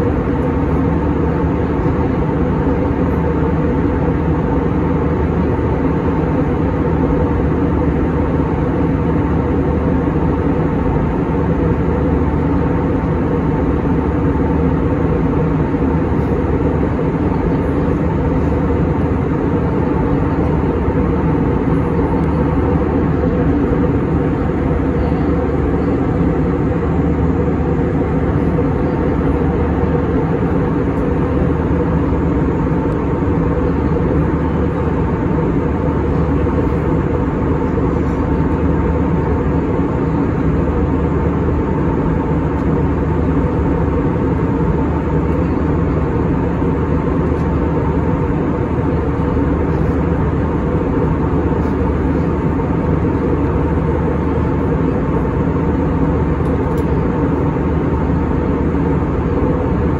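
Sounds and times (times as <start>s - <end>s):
low hums: 6.4s - 59.9s.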